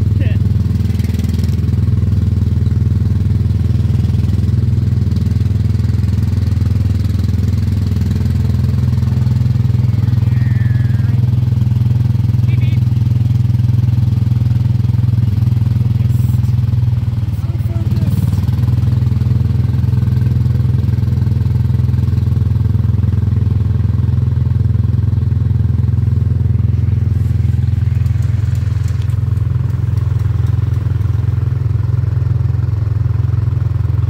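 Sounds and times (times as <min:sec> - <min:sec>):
small engine droning: 0:00.0 - 0:34.0.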